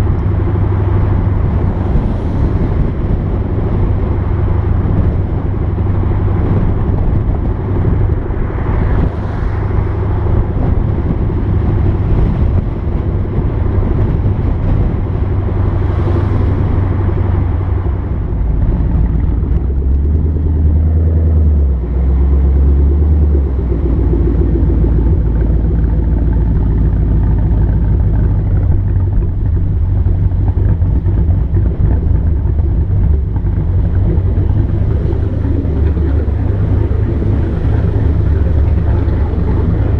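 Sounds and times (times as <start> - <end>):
car exhaust note: 0.0 - 39.9.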